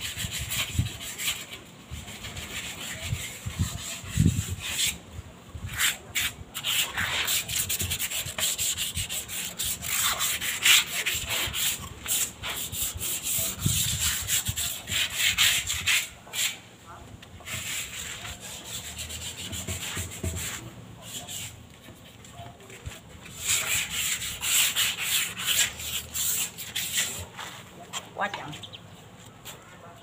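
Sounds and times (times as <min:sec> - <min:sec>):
rasping on concrete: 0:00.0 - 0:05.0, 0:05.7 - 0:16.6, 0:17.4 - 0:28.1.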